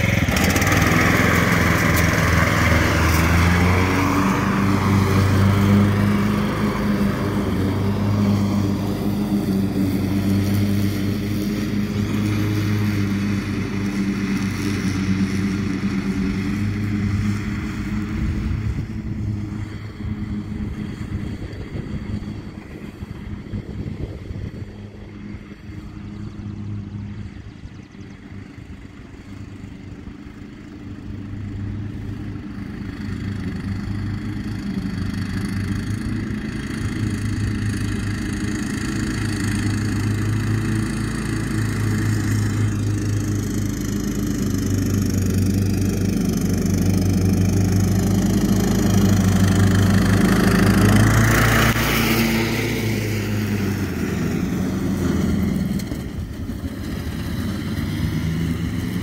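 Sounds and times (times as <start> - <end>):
riding lawn mower engine running: 0.0 - 59.0.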